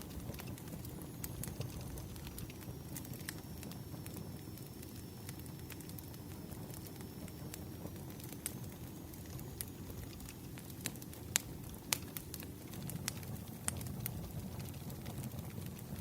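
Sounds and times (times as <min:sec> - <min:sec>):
log fire crackling and popping: 0:00.0 - 0:16.0.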